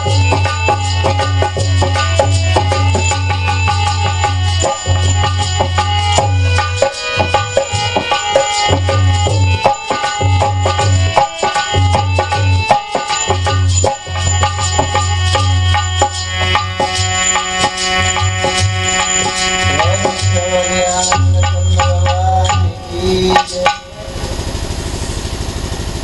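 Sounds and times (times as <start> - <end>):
held melodic notes: 0.0 - 24.3
tabla playing a rhythm: 0.0 - 24.6.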